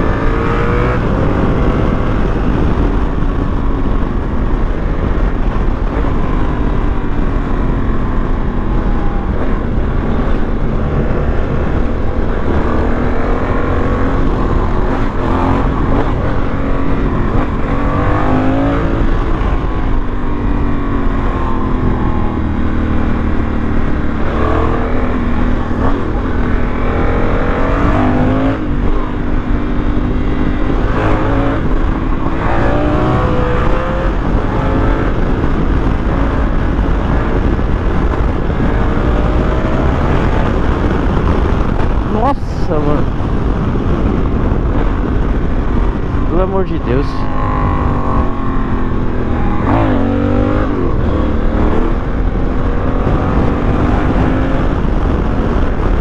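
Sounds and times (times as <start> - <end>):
motorcycle engine accelerating: 0.0 - 56.0
wind on microphone: 0.0 - 56.0.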